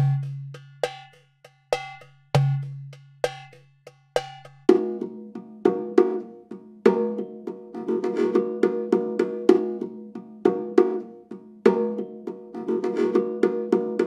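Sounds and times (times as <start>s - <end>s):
bongo strikes: 0.0s - 14.0s.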